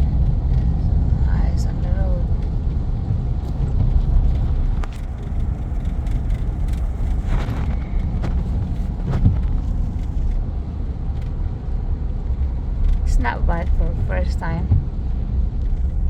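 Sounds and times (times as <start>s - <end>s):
engine and road noise rumble: 0.0s - 16.0s.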